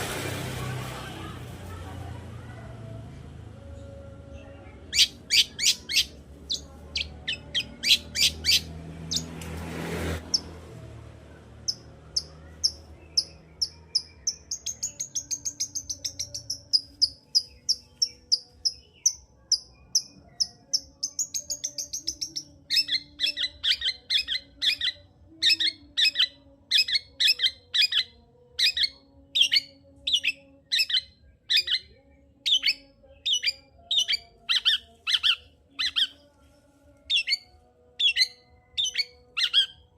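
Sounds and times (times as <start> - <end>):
shrike singing: 3.6 - 9.4, 11.5 - 39.9.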